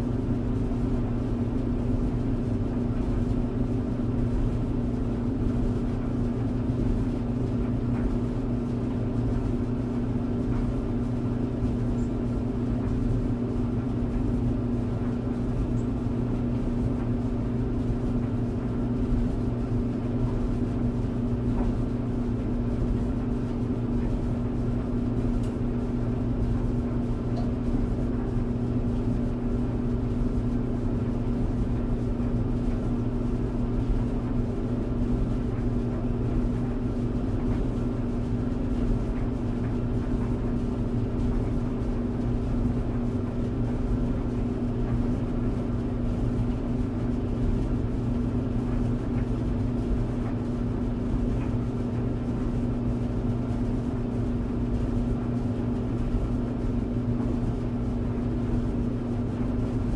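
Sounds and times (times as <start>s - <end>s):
clothes dryer running: 0.0s - 59.9s.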